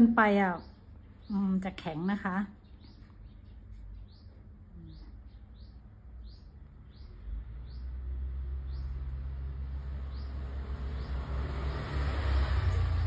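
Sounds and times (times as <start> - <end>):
small bird chirping: 0.0 - 11.5.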